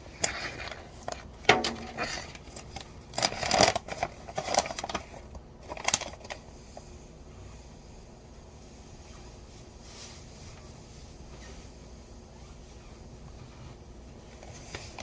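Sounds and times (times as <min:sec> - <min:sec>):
seasoning rustling and crackling: 0:00.1 - 0:15.0.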